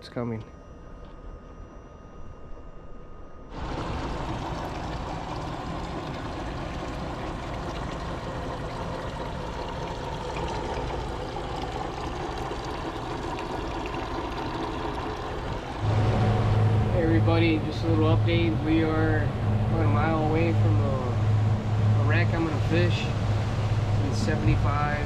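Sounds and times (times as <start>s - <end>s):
outboard motors running: 1.0s - 25.0s
water churning at stern: 3.5s - 25.0s.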